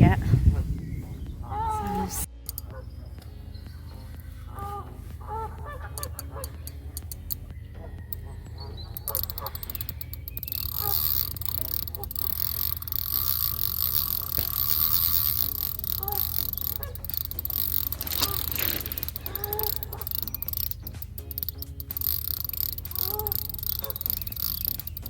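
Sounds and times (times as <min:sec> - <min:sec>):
geese honking: 0:00.0 - 0:25.0
steady low rumble: 0:00.0 - 0:25.0
fishing reel clicking: 0:02.4 - 0:03.3, 0:04.5 - 0:25.0.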